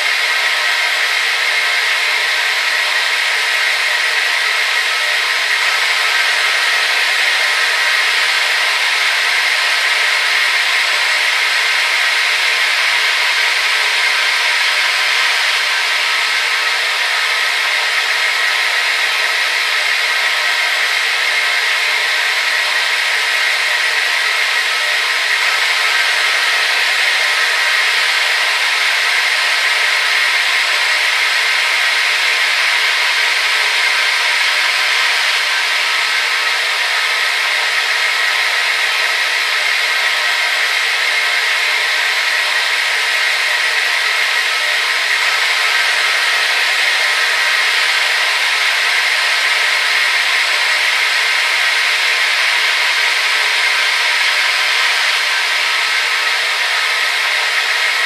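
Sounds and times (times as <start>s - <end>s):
hair dryer blowing: 0.0s - 58.0s.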